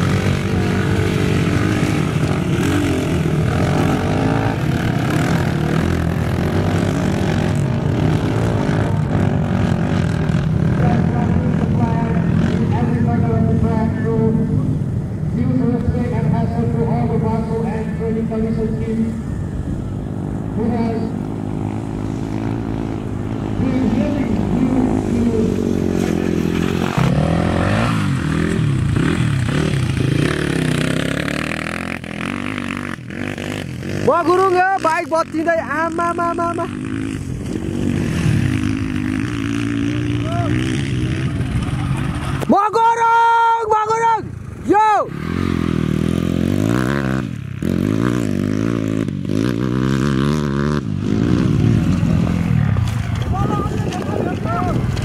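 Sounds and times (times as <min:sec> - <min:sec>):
dirt bike engine revving: 0:00.0 - 0:14.5, 0:20.2 - 0:55.0.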